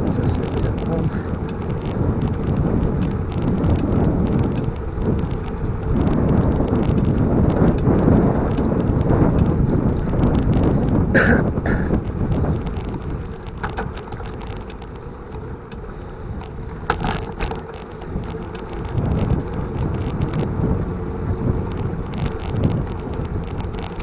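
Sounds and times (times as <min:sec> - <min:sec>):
bicycle clicks and rattles: 0:00.0 - 0:11.1, 0:12.0 - 0:24.0
wind buffeting microphone: 0:00.0 - 0:24.0.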